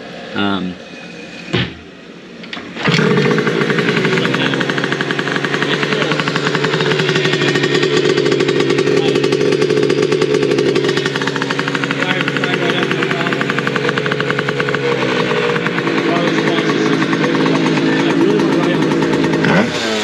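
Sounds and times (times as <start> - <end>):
two-stroke scooter engine idling: 2.8 - 20.0.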